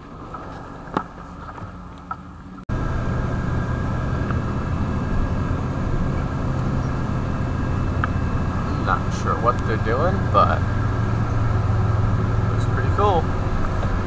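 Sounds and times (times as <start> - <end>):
vehicle engine and road hum: 0.0 - 14.0.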